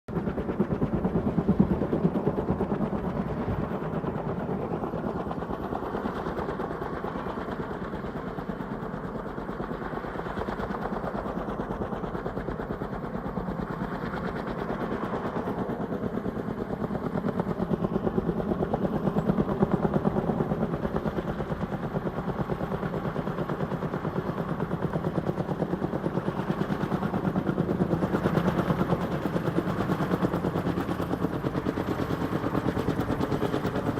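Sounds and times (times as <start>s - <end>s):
helicopter rotor blades chopping: 0.1s - 33.9s.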